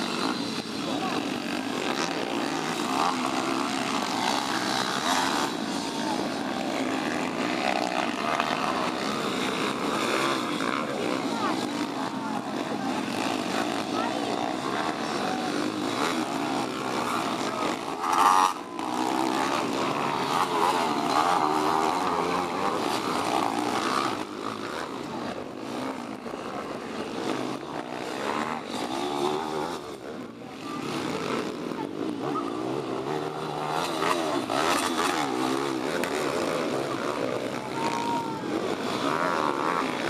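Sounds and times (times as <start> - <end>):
pit bike engines revving: 0.0 - 40.0.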